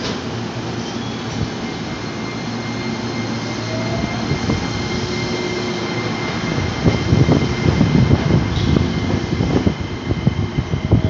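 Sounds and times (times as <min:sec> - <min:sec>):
train wheels running: 0:00.0 - 0:11.0
thin whine: 0:00.8 - 0:11.0.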